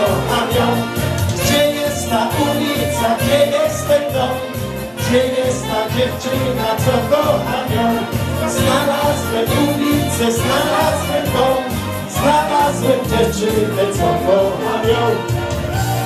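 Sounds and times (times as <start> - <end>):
person singing: 0.0 - 16.0
upbeat dance music: 0.0 - 16.0.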